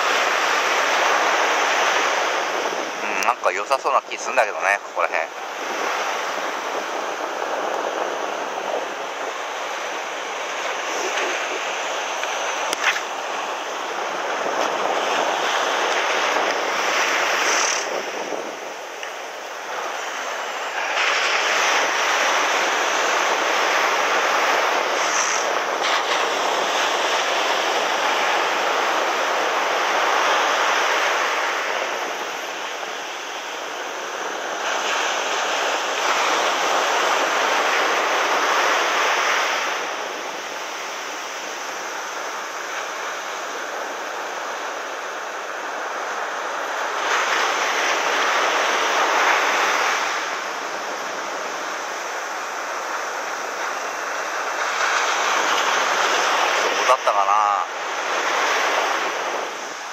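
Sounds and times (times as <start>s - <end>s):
ocean surf on beach: 0.0s - 59.9s.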